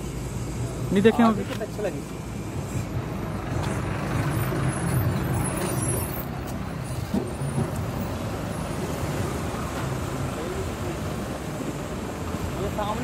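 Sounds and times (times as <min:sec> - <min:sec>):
road traffic noise: 0:00.0 - 0:13.0
vehicle engine running: 0:00.0 - 0:13.0.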